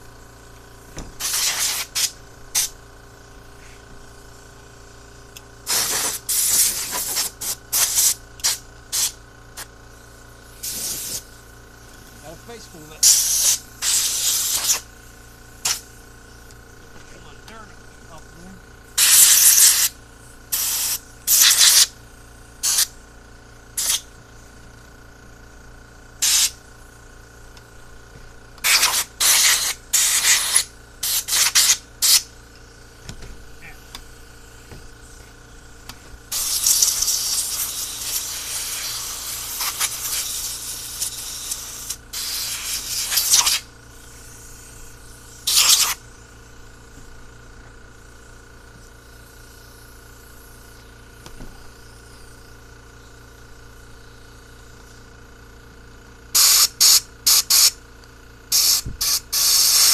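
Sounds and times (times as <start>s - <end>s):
compressed air hissing: 0.0s - 16.8s, 17.9s - 23.0s, 23.7s - 24.6s, 26.1s - 26.9s, 28.6s - 47.0s, 47.9s - 55.0s, 56.3s - 57.8s, 58.5s - 59.9s.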